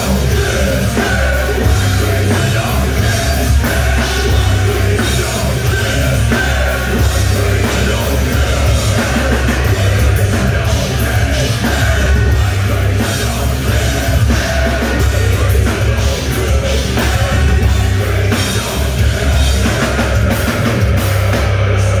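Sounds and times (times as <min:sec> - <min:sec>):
live hard rock band: 0:00.0 - 0:22.0
man singing: 0:00.0 - 0:22.0.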